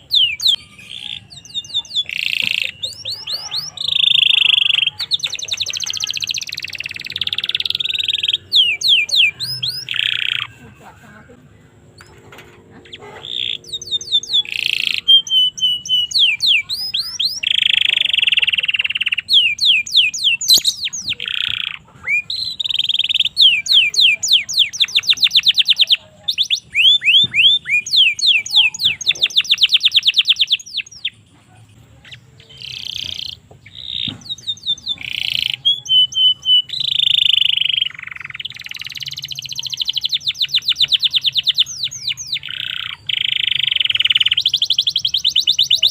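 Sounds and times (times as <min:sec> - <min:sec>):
canary singing: 0:00.0 - 0:45.9.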